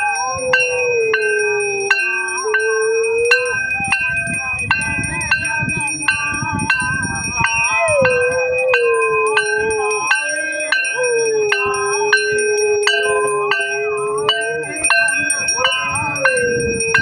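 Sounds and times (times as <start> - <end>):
dog howling: 0.0 - 4.6, 5.2 - 17.0
hand bell ringing: 0.0 - 17.0.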